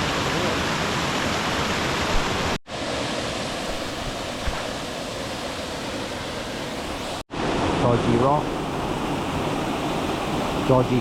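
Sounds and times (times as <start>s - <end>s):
water rushing down cascades: 0.0s - 11.0s.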